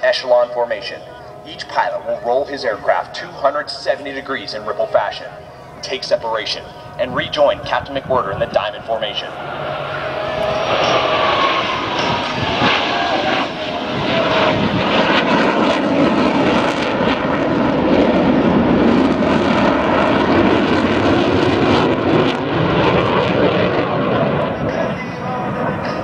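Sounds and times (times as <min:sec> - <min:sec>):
jet engines flying past: 0:00.0 - 0:26.0.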